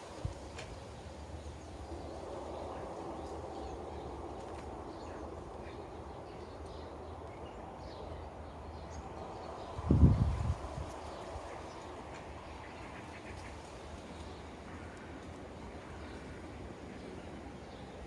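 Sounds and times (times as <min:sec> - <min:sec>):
sparrows chirping: 0:00.2 - 0:18.0.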